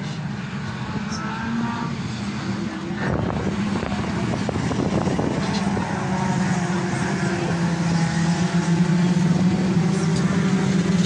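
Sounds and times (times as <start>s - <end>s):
car engines droning: 0.0s - 11.0s.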